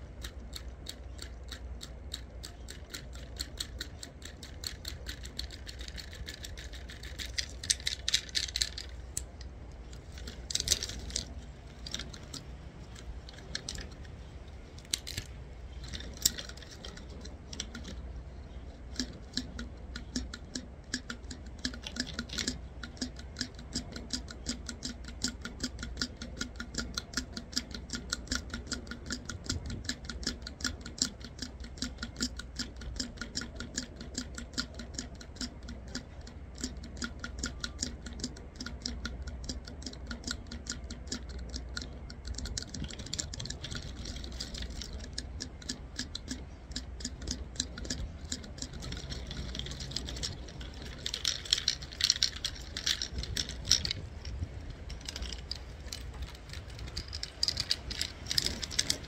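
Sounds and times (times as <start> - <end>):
low steady rumble: 0.0 - 59.0
pinecone scales scraped clicking: 0.0 - 59.0.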